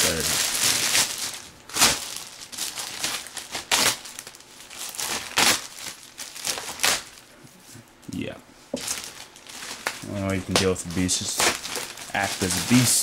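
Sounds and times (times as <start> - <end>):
packaging crinkling and rustling: 0.0 - 7.3, 8.8 - 13.0.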